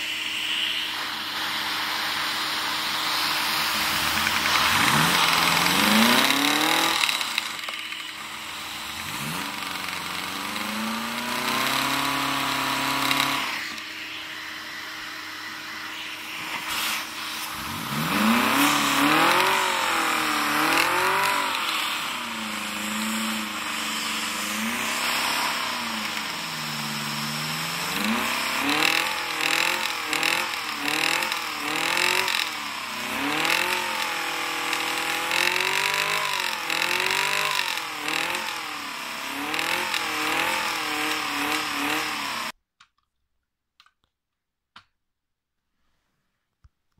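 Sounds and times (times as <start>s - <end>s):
motor whine revving: 0.0s - 42.6s.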